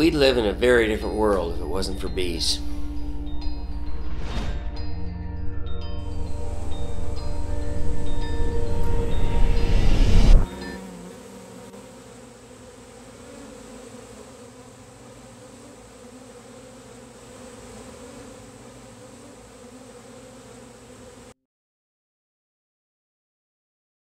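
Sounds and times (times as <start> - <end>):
bees buzzing: 0.0 - 21.4.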